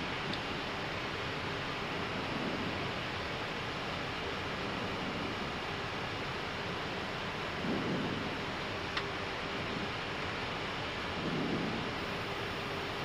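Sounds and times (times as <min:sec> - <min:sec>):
cockpit airflow hiss: 0:00.0 - 0:13.0.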